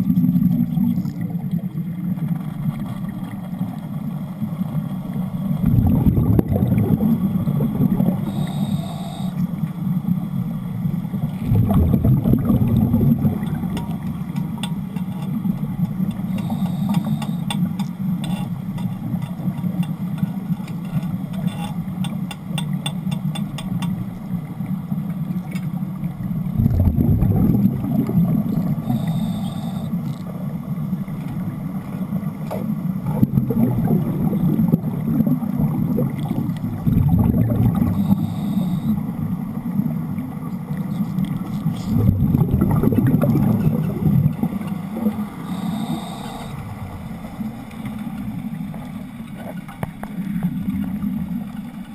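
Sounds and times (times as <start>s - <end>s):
underwater rumble and bubbling: 0.0s - 51.9s.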